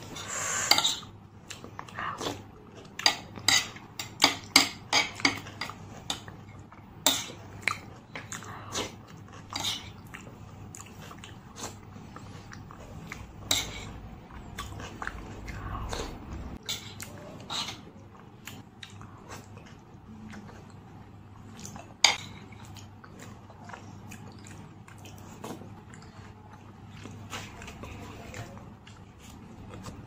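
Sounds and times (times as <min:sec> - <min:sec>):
wet chewing and mouth-smacking: 0:01.0 - 0:30.0.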